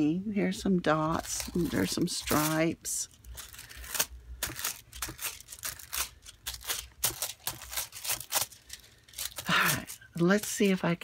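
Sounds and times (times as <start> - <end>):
paper rustling and crinkling: 1.1 - 11.0.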